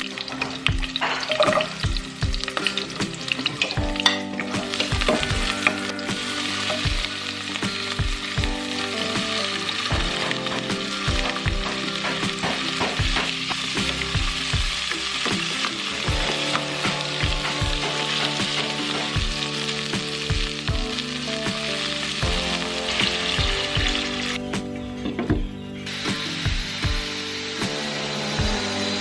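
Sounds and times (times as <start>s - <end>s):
food sizzling in a pan: 0.0s - 24.4s
background music: 0.0s - 29.0s.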